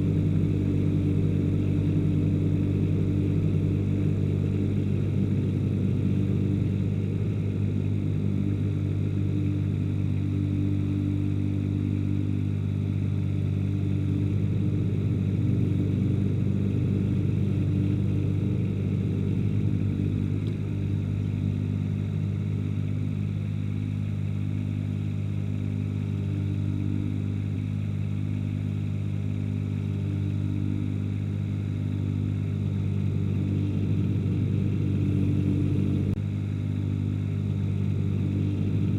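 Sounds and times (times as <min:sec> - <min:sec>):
ride-on mower engine running: 0:00.0 - 0:38.9.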